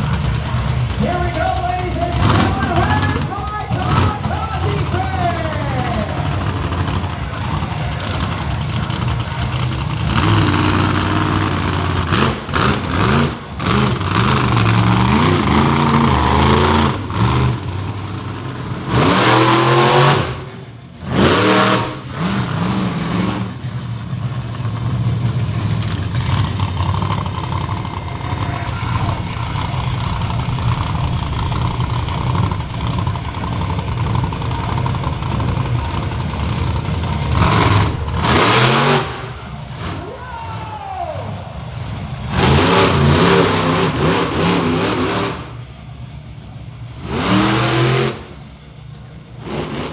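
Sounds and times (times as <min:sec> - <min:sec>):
monster truck engine revving: 0:00.0 - 0:49.9.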